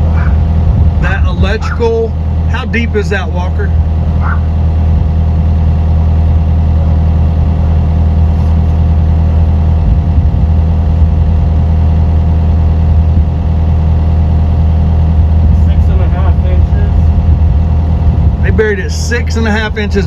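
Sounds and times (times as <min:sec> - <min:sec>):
digging machine engine idling: 0:00.0 - 0:20.0.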